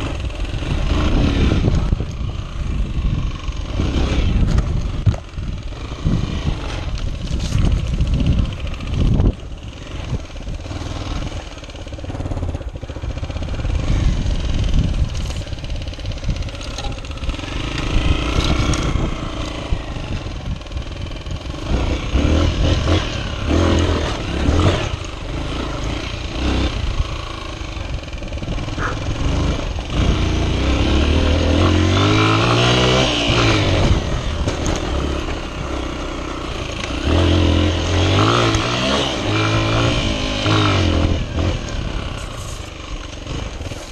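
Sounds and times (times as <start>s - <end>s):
wind noise: 0.0s - 35.8s
motorcycle engine revving: 0.0s - 43.9s.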